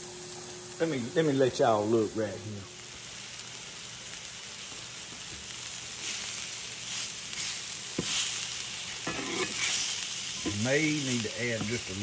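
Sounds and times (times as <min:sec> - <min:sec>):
steaks sizzling in a skillet: 0:00.2 - 0:12.0.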